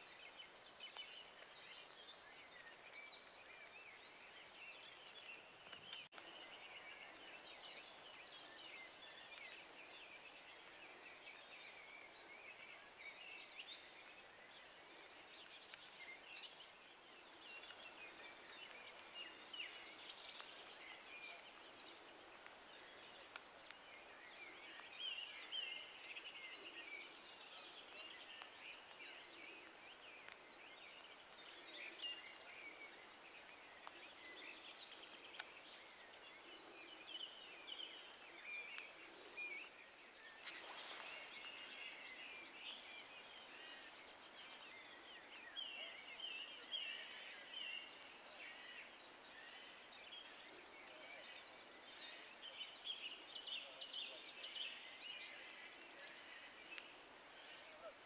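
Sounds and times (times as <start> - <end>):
light steady hiss: 0.0 - 58.0.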